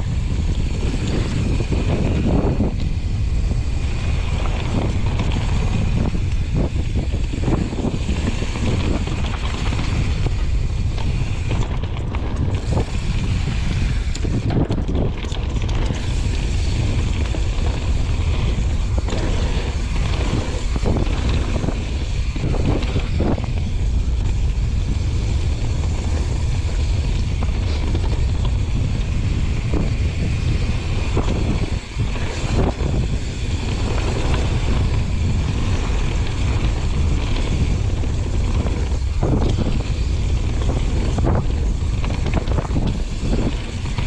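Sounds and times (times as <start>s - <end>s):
bike rattling over bumps: 0.0s - 44.0s
bike tyres on gravel: 0.0s - 44.0s
wind buffeting microphone: 0.0s - 44.0s.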